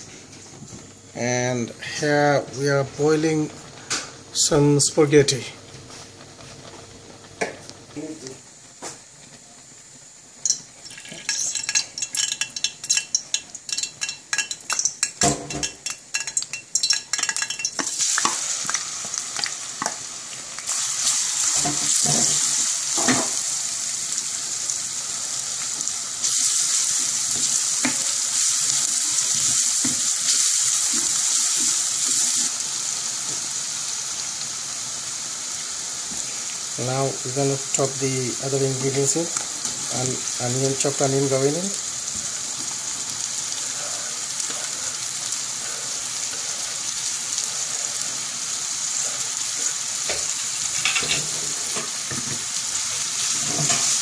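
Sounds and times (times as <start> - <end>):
hot oil crackling and sizzling: 0.0 - 54.0.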